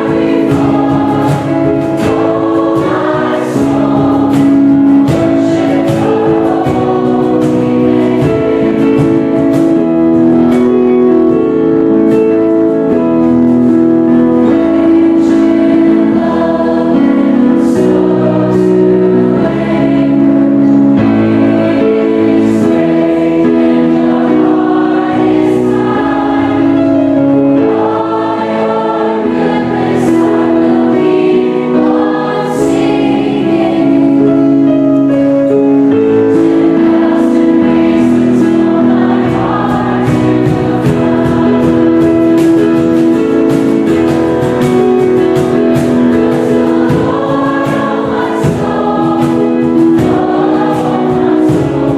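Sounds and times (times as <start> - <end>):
choir singing in parts: 0.0 - 51.9.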